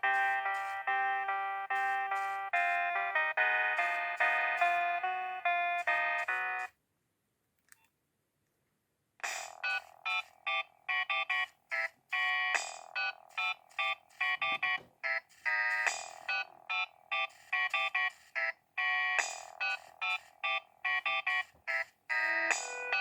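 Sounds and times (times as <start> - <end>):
mobile phone ringtone melodies: 0.0 - 6.7, 9.6 - 23.0.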